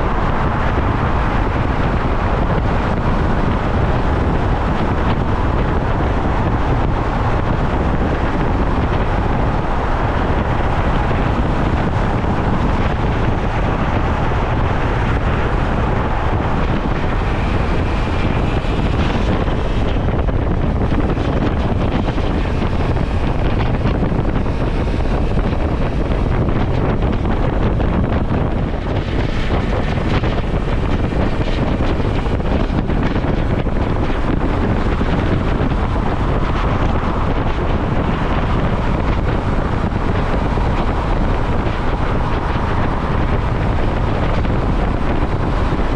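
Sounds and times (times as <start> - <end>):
motorcycle engine and road noise: 0.0 - 45.9
wind rush on microphone: 0.0 - 45.9.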